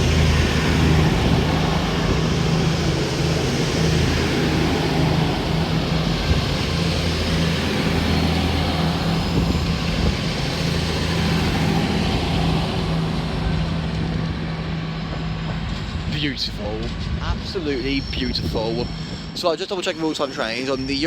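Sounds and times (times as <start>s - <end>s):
diesel train engine drone: 0.0s - 21.0s.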